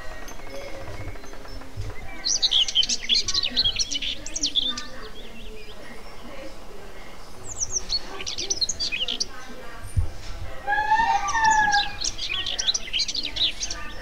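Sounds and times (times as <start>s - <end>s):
songbird singing high chirps: 0.0s - 14.0s.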